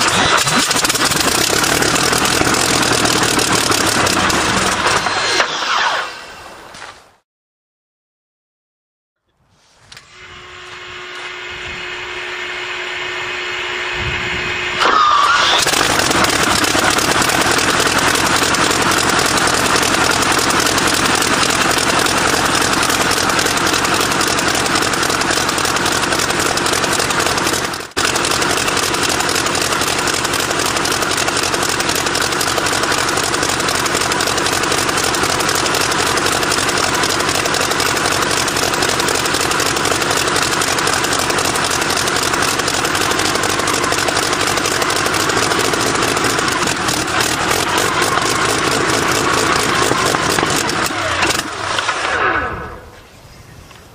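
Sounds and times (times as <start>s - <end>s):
aircraft engine running loudly: 0.0s - 6.1s, 10.0s - 53.0s
engine starter whine: 0.0s - 6.6s, 9.9s - 53.1s.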